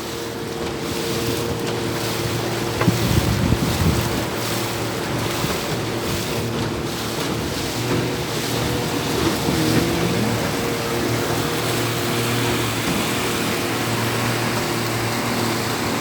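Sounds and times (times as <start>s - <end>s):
motorboat engine running: 0.0s - 16.0s
rushing water and wind: 0.0s - 16.0s.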